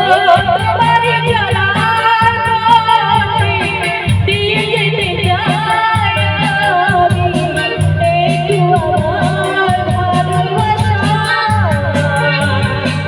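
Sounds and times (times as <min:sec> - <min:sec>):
song over bass-heavy beat: 0:00.0 - 0:13.0.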